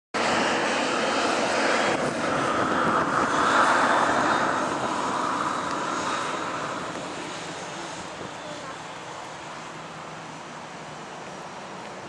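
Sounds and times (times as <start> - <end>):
faint high engine whine: 0.2 - 12.0
jet engines rushing: 0.2 - 12.0.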